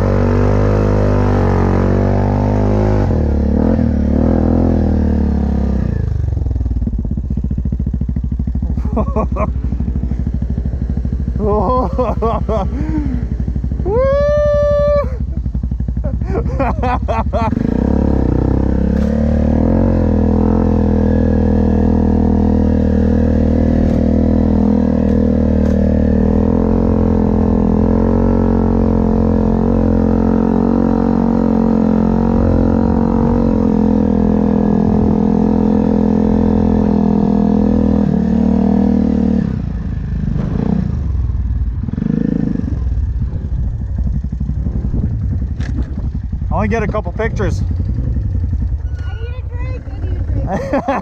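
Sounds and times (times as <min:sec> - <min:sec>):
quad bike engine running: 0:00.0 - 0:51.0.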